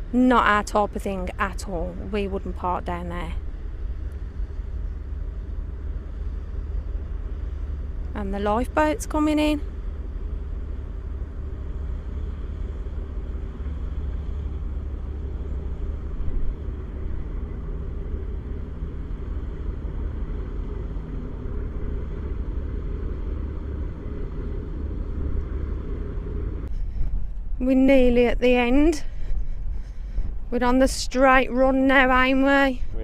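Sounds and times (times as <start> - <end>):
boat diesel engines droning: 0.0 - 33.0
wind rumble on microphone: 0.0 - 33.0.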